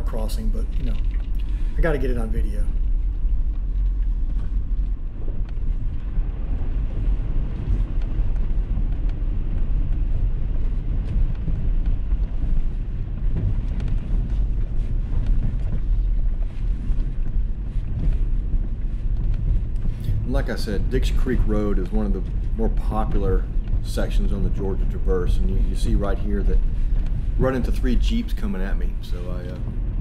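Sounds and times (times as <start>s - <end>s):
vehicle rumble: 0.0s - 30.0s.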